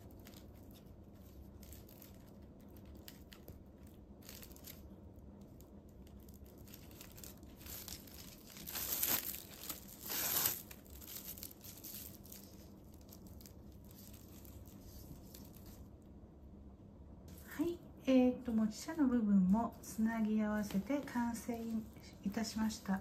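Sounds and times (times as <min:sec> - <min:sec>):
plastic tape crinkling: 0:00.0 - 0:16.0, 0:20.6 - 0:23.0.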